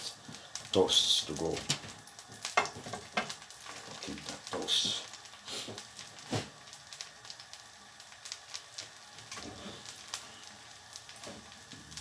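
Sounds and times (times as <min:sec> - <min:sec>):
bread frying in oil: 0:00.0 - 0:12.0.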